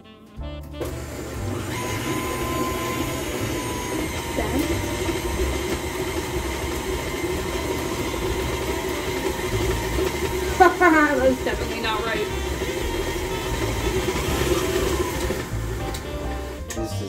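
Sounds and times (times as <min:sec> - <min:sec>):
electric mixer beating dough: 0:00.6 - 0:17.0.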